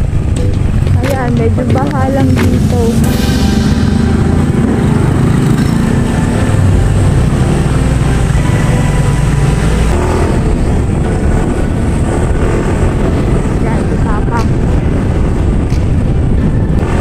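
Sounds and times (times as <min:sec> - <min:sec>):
motorcycle engine running: 0:00.0 - 0:17.0
road noise: 0:00.0 - 0:17.0
wind noise: 0:00.0 - 0:17.0.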